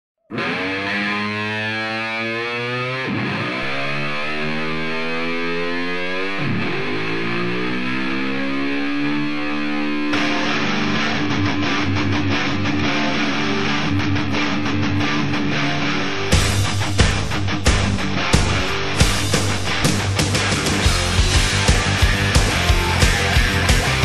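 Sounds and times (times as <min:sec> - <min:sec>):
distorted electric guitar chords: 0:00.3 - 0:24.0.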